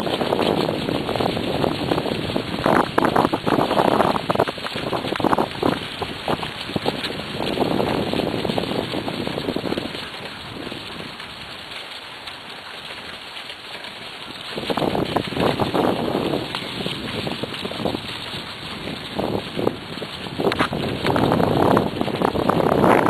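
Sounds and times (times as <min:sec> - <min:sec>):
wind buffeting microphone: 0:00.0 - 0:11.6, 0:14.2 - 0:23.0
wheels rolling over dirt track: 0:00.0 - 0:23.0.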